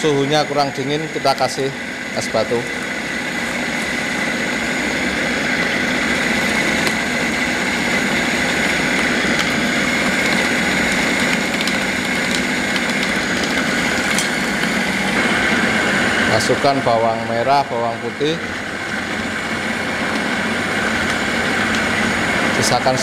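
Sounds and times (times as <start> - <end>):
electric blender motor whining: 0.0 - 23.0
meat and ice churning: 0.0 - 23.0.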